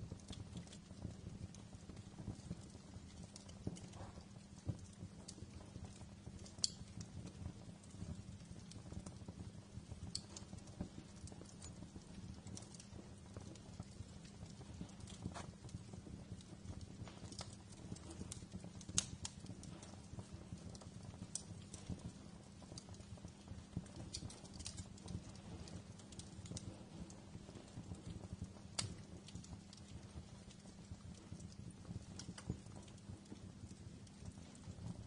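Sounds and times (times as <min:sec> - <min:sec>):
fire crackling and snapping: 0:00.0 - 0:35.0
rumble of fire flames: 0:00.0 - 0:35.0.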